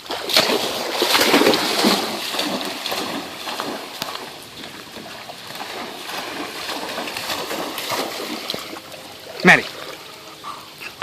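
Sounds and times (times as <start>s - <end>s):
dog splashing through shallow water: 0.0s - 11.0s.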